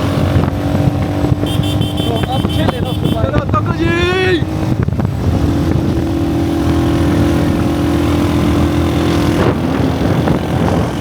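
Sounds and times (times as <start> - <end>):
car engine droning: 0.0 - 11.0
low road rumble: 0.0 - 11.0.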